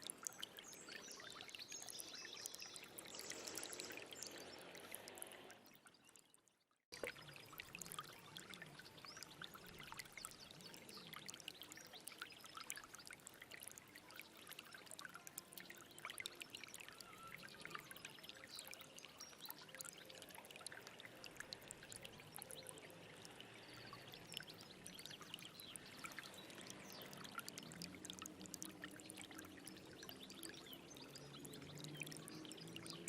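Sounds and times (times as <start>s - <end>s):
stream water trickling and splashing: 0.0s - 33.0s.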